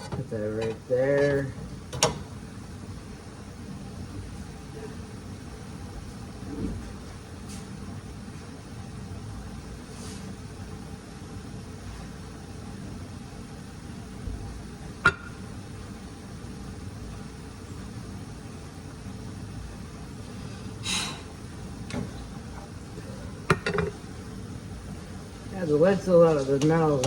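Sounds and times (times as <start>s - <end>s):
kitchen hum: 0.0s - 27.0s.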